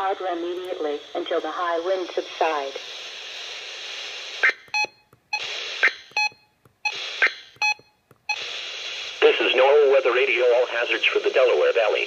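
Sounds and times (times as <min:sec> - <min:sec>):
radio static hiss: 0:00.0 - 0:04.7, 0:05.4 - 0:06.2, 0:06.9 - 0:07.6, 0:08.3 - 0:12.0.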